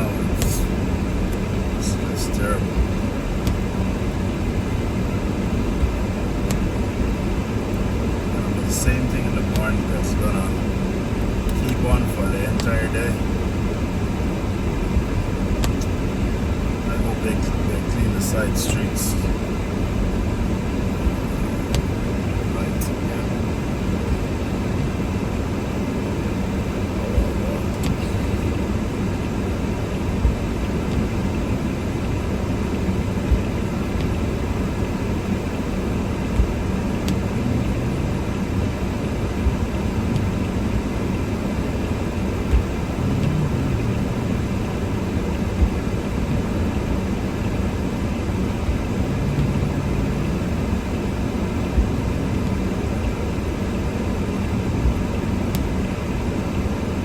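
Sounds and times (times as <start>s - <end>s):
engine and tyres rumbling: 0.0s - 57.0s.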